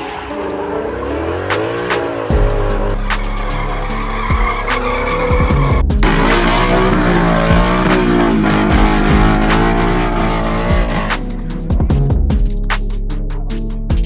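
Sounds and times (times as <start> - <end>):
car engine revving: 0.0 - 11.7
background music: 0.0 - 14.0.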